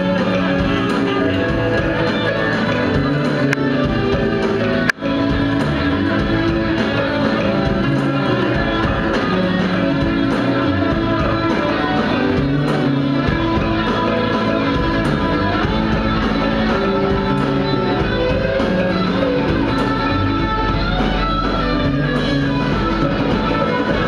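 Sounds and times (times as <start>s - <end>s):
electric guitar: 0.0s - 24.0s
live band music: 0.0s - 24.0s.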